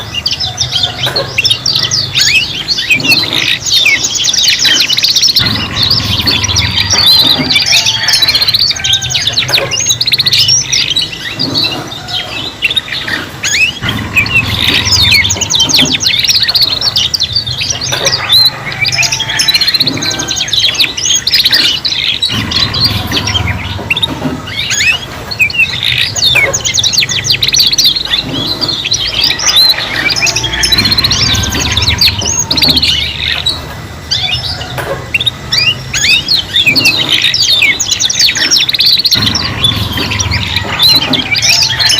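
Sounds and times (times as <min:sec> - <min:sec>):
canaries singing: 0:00.0 - 0:41.9
steady low hum: 0:00.0 - 0:41.9.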